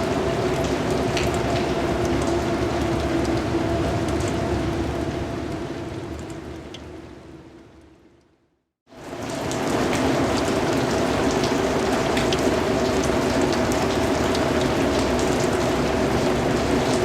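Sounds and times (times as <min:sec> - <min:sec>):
rain falling: 0:00.0 - 0:17.0
raindrops pattering on a surface: 0:00.0 - 0:17.0.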